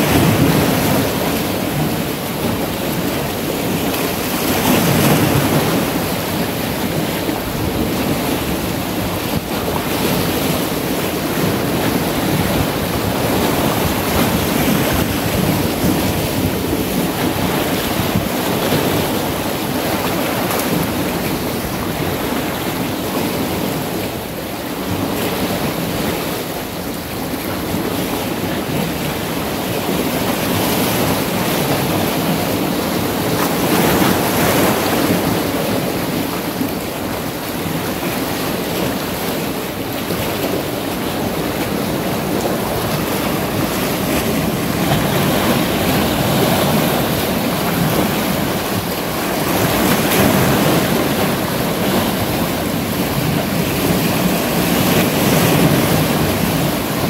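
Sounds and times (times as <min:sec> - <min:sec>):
sea surf washing over rocks: 0:00.0 - 0:57.0
wind noise on microphone: 0:00.0 - 0:57.0.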